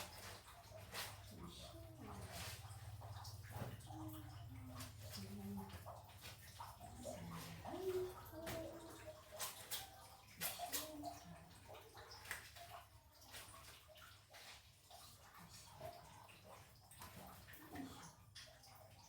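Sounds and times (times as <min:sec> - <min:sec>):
water splashing in a tub: 0:00.0 - 0:19.0.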